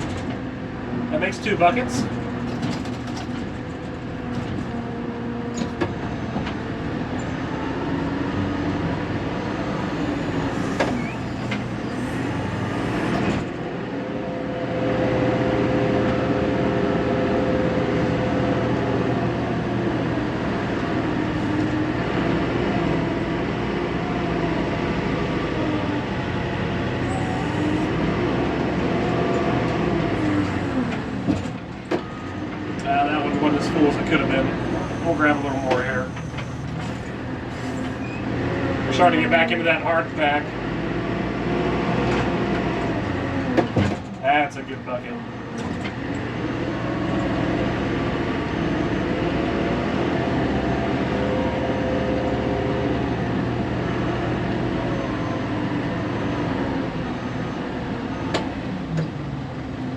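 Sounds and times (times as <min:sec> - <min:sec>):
backhoe diesel engine under load: 0:00.0 - 0:59.9.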